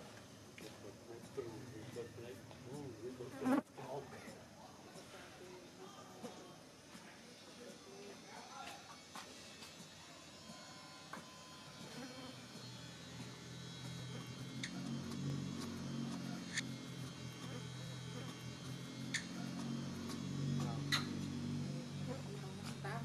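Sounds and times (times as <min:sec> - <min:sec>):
insect buzzing: 0:00.0 - 0:04.3, 0:07.6 - 0:23.0.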